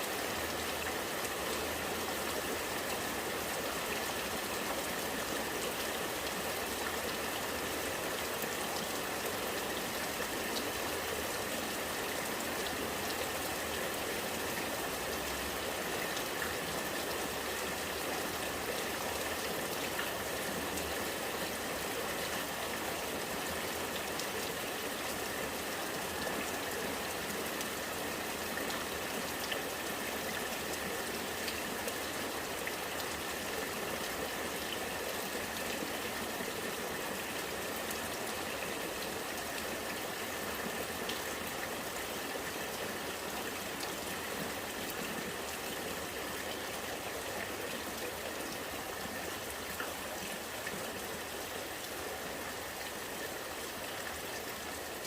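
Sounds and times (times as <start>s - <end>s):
rainwater running and gurgling: 0.0s - 55.0s.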